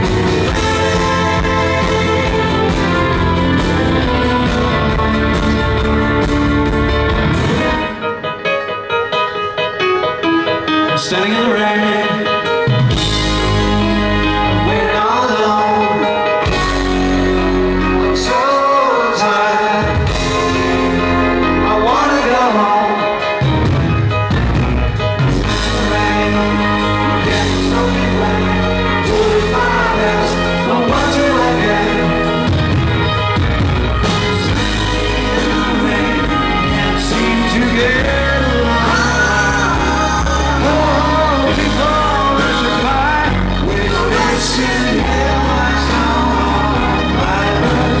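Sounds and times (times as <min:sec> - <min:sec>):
man singing: 0:00.0 - 0:07.0, 0:10.8 - 0:23.7, 0:25.3 - 0:48.0
keyboard playing: 0:00.0 - 0:48.0
live rock band playing: 0:00.0 - 0:48.0.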